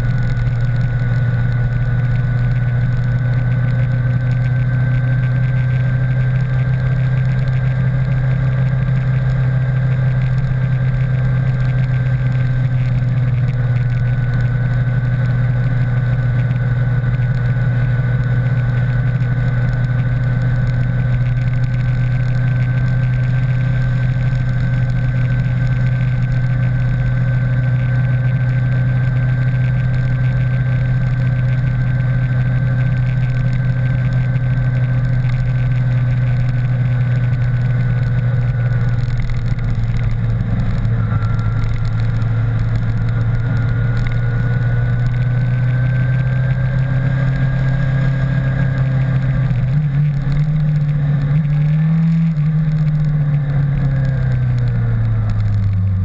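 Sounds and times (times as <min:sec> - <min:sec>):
motorcycle engine and wind drone: 0:00.0 - 0:56.0.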